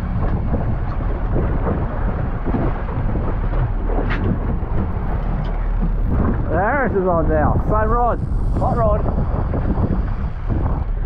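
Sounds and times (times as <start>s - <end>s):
sea water rushing along boat: 0.0s - 11.0s
wind buffeting microphone: 0.0s - 11.0s.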